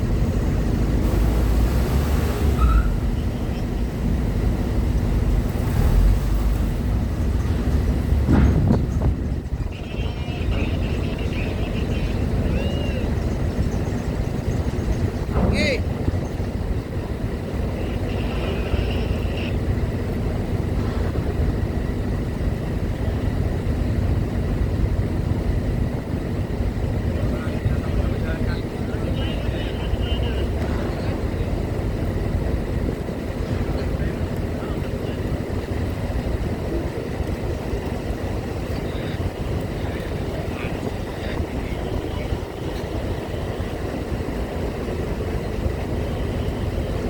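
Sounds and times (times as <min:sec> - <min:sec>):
heavy vehicle engines rumbling: 0:00.0 - 0:47.0.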